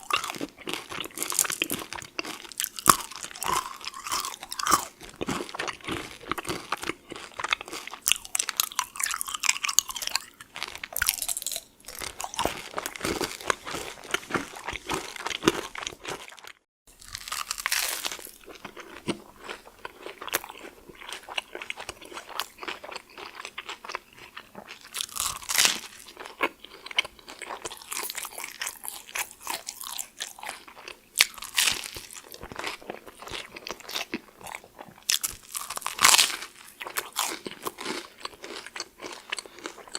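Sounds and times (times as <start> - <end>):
chewing toasted sandwich: 0.0 - 39.9
crunching hard candy: 0.0 - 39.9.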